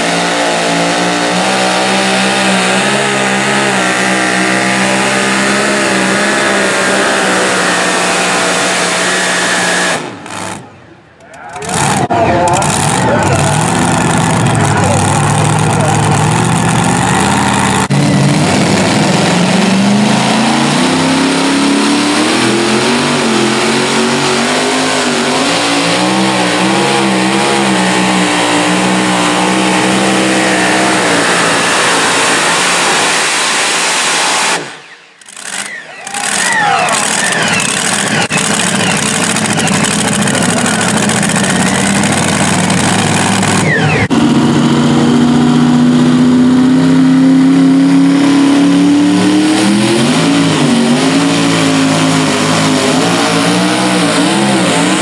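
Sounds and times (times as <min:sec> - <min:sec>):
truck engine at full throttle: 0:00.0 - 0:55.0
truck engine running steady: 0:00.0 - 0:55.0.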